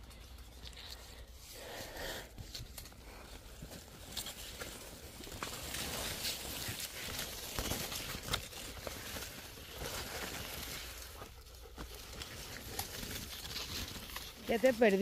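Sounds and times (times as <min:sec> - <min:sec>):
dry corn leaves rustling: 0:00.0 - 0:15.0
stalks cracking: 0:02.4 - 0:15.0.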